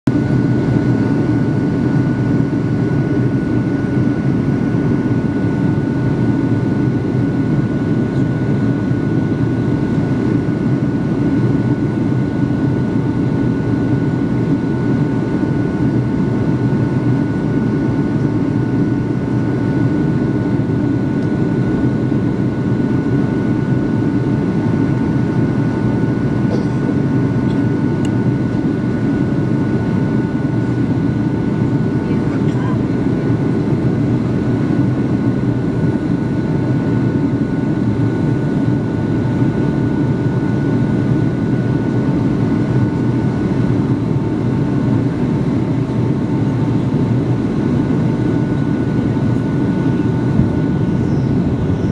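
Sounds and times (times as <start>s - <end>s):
faint steady whine: 0.1s - 51.9s
jet engines and airflow rushing: 0.1s - 51.9s.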